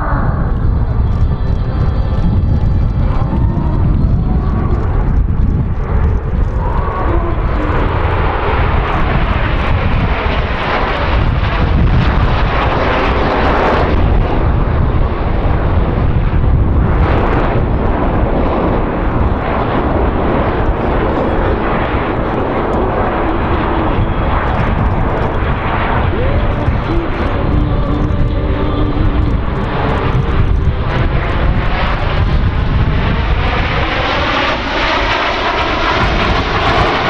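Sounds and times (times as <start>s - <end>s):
jet aircraft flying overhead: 0.0s - 37.0s.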